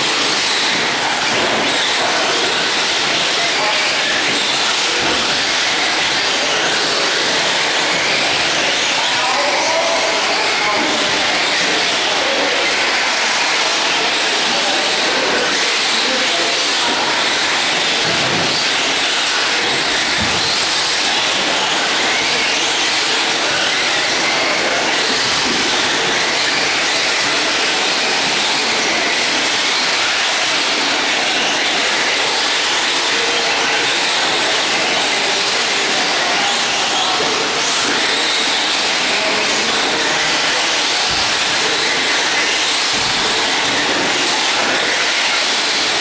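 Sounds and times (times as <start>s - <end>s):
rc cars motors whirring: 0.0s - 46.0s.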